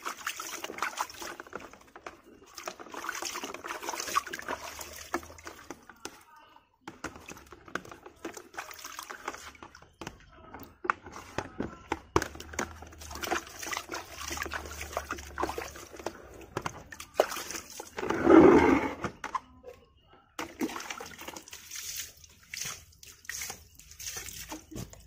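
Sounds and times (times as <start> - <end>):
water sloshing in a plastic tub: 0.0 - 25.0.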